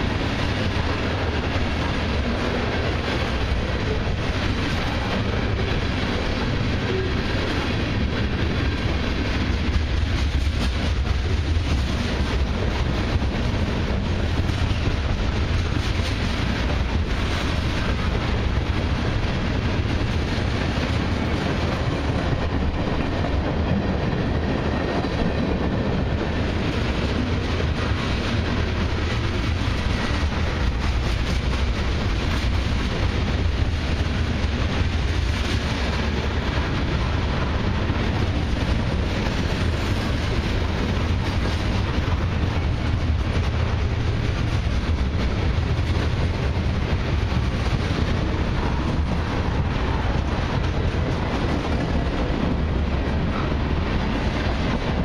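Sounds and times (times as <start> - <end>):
steel wheels rumbling on rails: 0.0 - 55.0.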